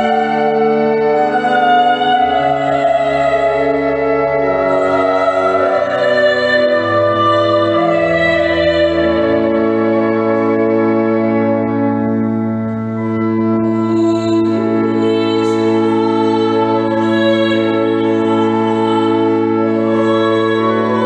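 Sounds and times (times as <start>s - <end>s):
slow held chords: 0.0s - 21.0s
sung melody: 0.0s - 21.0s.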